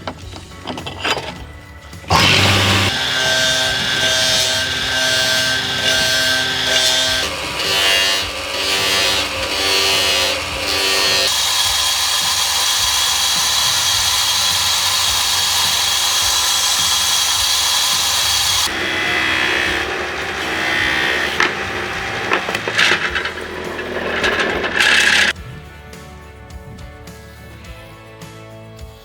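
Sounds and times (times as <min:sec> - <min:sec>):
scraping and rubbing: 0:00.0 - 0:25.4
music: 0:00.0 - 0:29.0
power tool grinding: 0:02.0 - 0:25.4.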